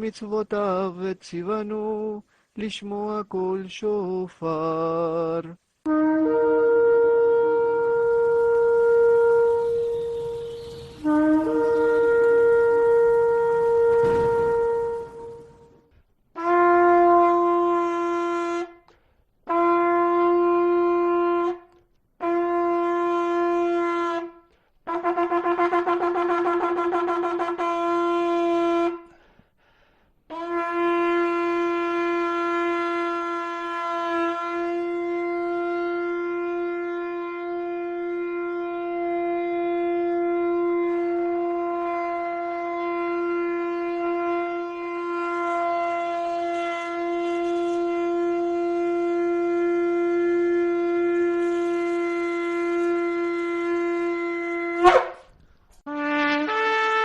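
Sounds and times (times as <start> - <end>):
shofar blasts: 5.9 - 29.2, 30.3 - 57.0.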